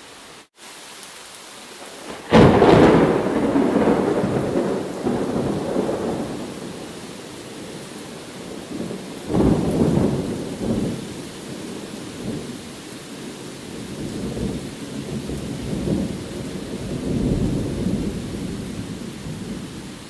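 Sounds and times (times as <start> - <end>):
steady rain: 0.0 - 20.0
thunder rumbling: 1.8 - 12.6, 13.7 - 20.0.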